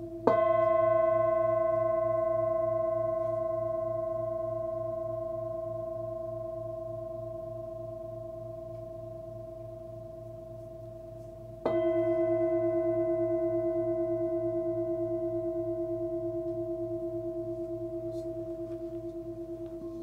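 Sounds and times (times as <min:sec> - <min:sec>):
singing bowl ringing: 0:00.0 - 0:20.0.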